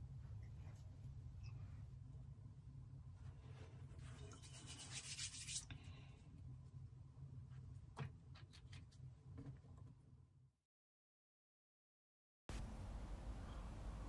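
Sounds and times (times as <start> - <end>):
low steady hum: 0.0 - 10.6, 12.5 - 14.0.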